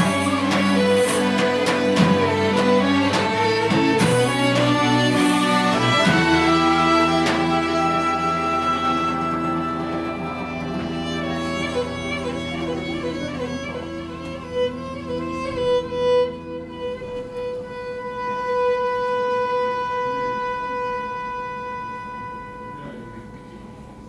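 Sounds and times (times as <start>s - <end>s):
accordion chords: 0.0s - 24.0s
fiddle melody: 0.0s - 24.0s.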